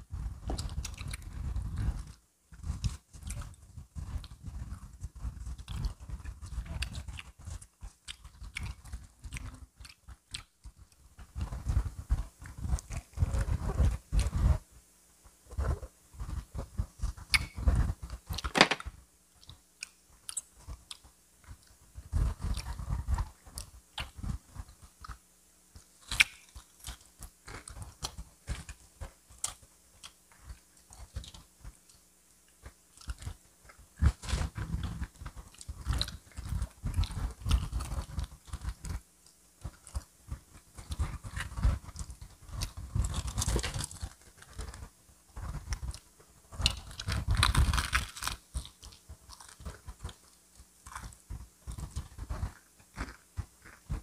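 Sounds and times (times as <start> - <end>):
crunching and chewing fried chicken: 0.1 - 14.6, 15.4 - 54.0.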